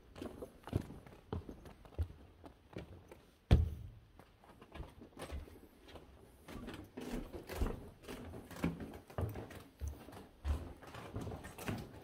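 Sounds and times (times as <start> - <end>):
footsteps on indoor stairs: 0.0 - 12.0.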